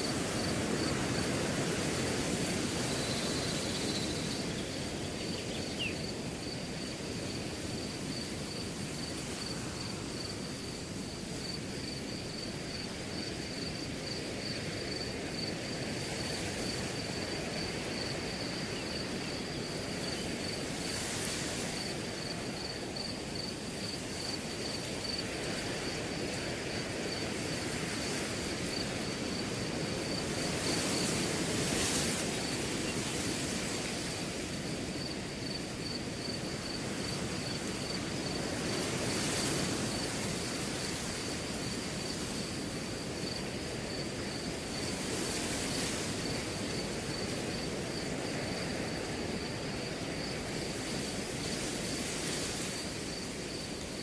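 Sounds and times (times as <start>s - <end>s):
cricket chirping: 0.0s - 54.0s
wind gusting through grass: 0.0s - 54.0s.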